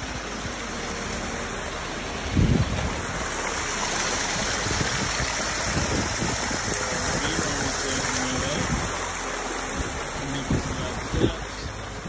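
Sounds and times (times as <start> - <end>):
water splashing over rocks: 0.0 - 12.0.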